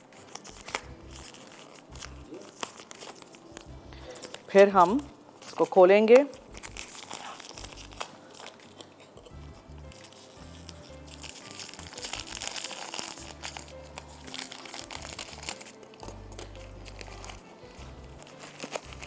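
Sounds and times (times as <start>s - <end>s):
background music: 0.0s - 19.0s
plastic packet crinkling: 0.0s - 19.0s
scissors cutting plastic: 0.0s - 19.0s.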